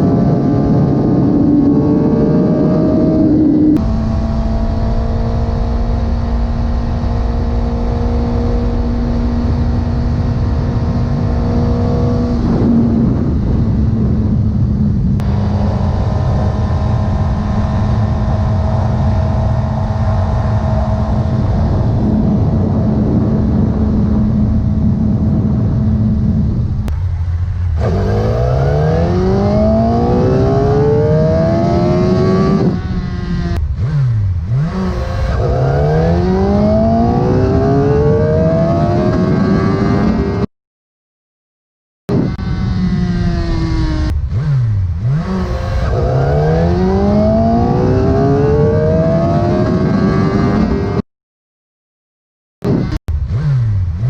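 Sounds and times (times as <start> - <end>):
motorcycle engine revving: 0.0 - 40.5, 42.1 - 51.0, 52.6 - 54.0.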